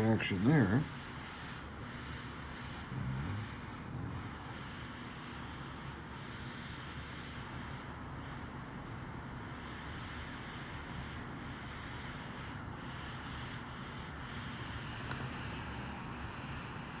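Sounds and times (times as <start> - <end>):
butane torch hissing: 0.0 - 17.0.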